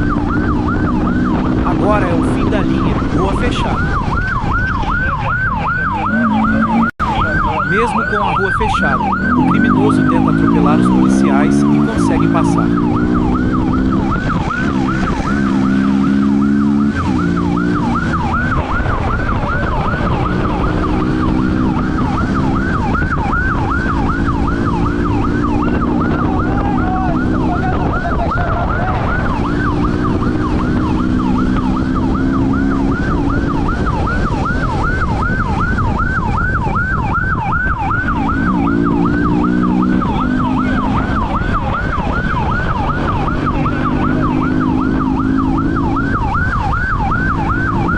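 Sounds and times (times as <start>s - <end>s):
police siren yelping: 0.0s - 47.9s
vehicle engine revving: 0.0s - 47.9s.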